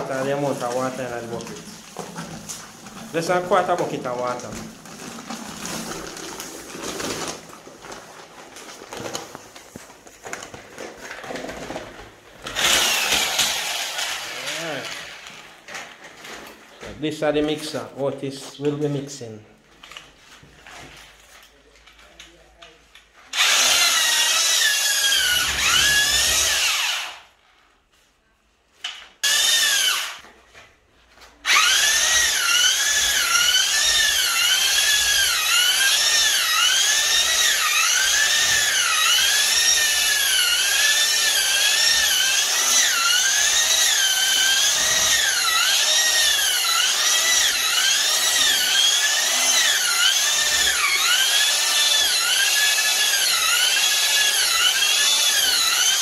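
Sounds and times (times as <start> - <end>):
drill mixing mortar in bucket: 0.0 - 17.1, 23.3 - 27.6, 29.2 - 30.3, 31.4 - 56.0.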